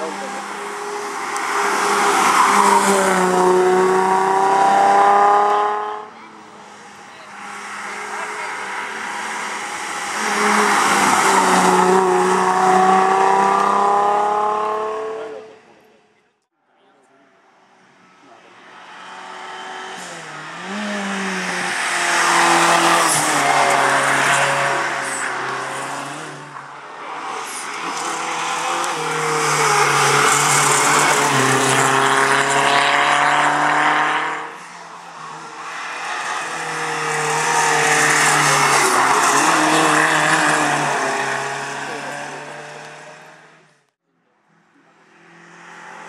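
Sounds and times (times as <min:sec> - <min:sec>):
race car engine revving: 0:00.0 - 0:15.8, 0:18.6 - 0:43.8.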